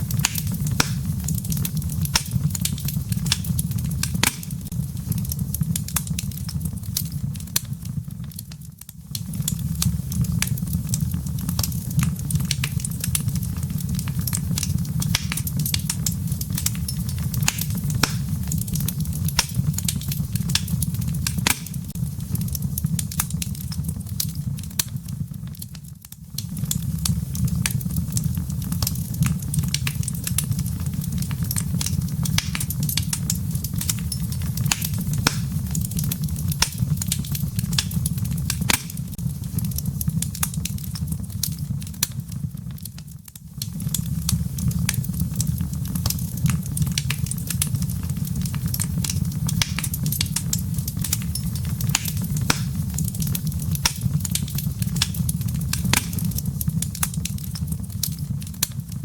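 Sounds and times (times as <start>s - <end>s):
fire crackling with pops: 0.0s - 59.0s
low rumble of flames: 0.0s - 59.0s.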